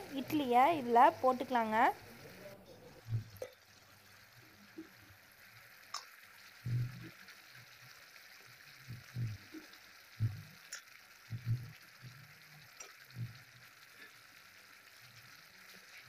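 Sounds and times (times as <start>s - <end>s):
gravy sizzling in a pan: 0.0s - 16.0s.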